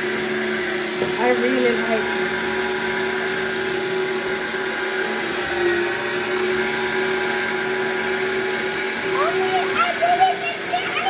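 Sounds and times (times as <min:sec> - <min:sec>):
electric motor whirring: 0:00.0 - 0:11.0.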